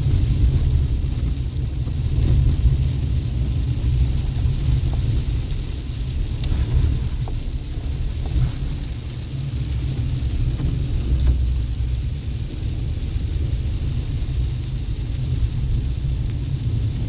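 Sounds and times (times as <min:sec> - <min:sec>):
pickup truck driving rumble: 0:00.0 - 0:17.0.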